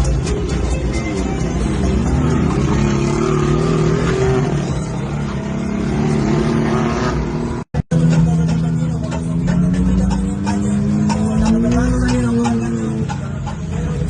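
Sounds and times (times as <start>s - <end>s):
vehicle engines revving: 0.0s - 14.0s.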